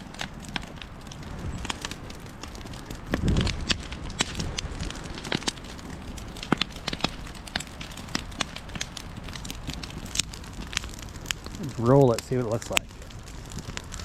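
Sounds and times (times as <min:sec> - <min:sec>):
burning wood crackling: 0:00.0 - 0:14.0
sharp pops and snaps: 0:00.0 - 0:14.0.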